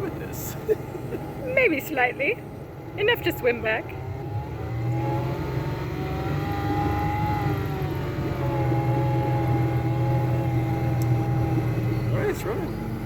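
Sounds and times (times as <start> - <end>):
small outboard motor running: 2.4 - 13.0.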